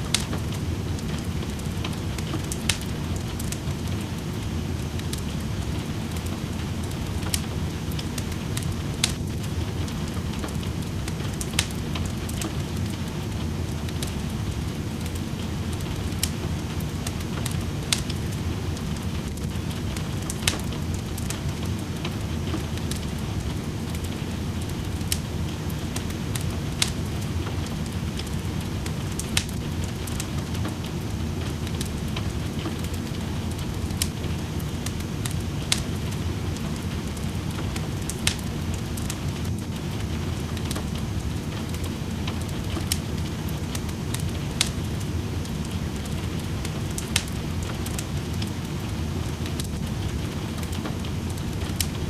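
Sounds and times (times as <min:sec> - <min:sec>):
rain hissing: 0:00.0 - 0:52.0
wood fire crackling and popping: 0:00.0 - 0:52.0.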